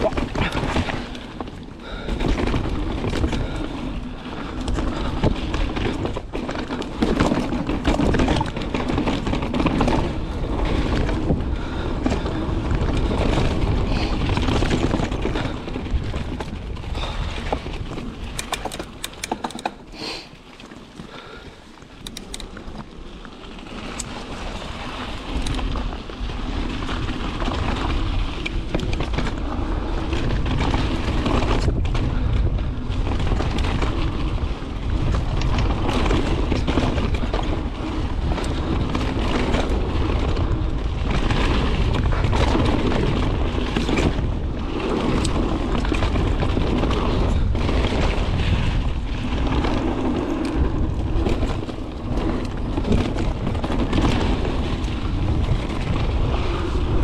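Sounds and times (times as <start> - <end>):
wind buffeting microphone: 0.0 - 20.0, 20.9 - 57.0
bike knocking and rattling: 0.0 - 57.0
bike tyres rumbling on dirt: 0.0 - 57.0.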